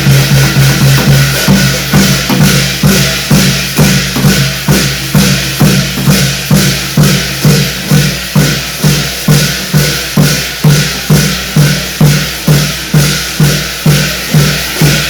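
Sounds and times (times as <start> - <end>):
continuous high wash of sound: 0.0 - 15.0
ritual drumming: 0.0 - 15.0.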